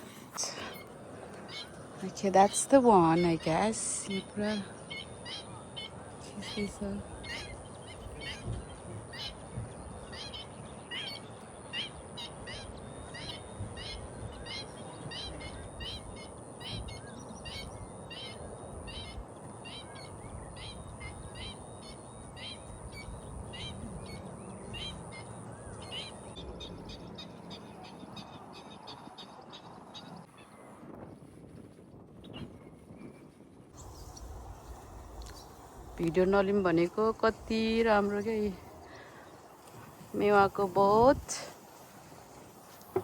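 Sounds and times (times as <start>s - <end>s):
outdoor background rush: 0.0s - 43.0s.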